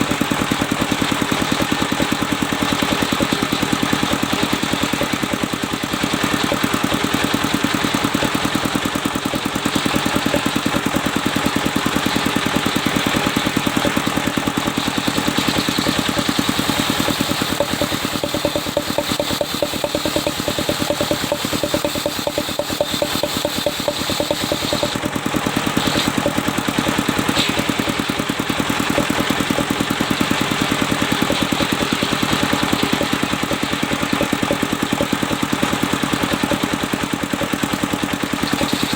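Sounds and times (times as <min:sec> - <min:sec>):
machine saw engine pulsing: 0:00.0 - 0:38.9.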